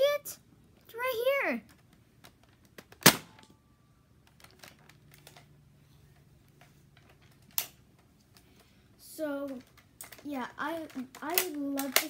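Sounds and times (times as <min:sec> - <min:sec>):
faint plastic clicks and handling: 0:01.6 - 0:03.5, 0:04.2 - 0:12.0.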